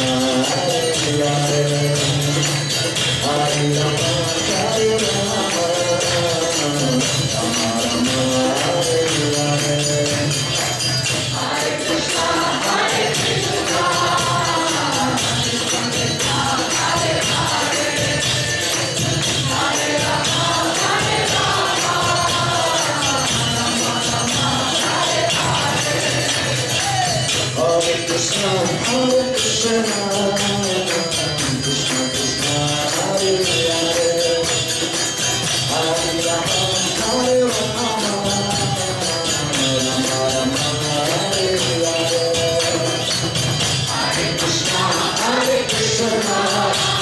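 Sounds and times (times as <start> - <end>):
jingling hand cymbals: 0.0 - 47.0.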